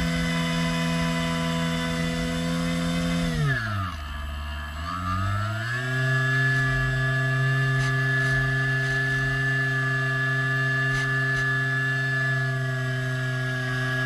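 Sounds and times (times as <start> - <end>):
airboat motor and propeller: 0.0 - 14.0.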